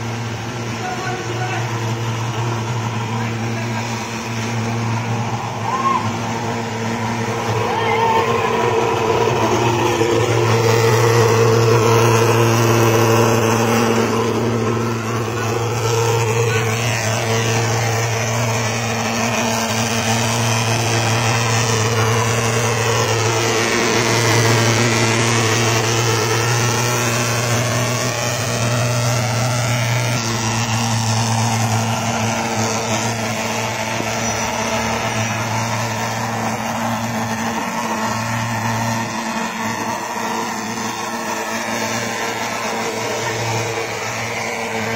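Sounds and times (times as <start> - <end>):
thermal fogger droning: 0.0 - 44.9.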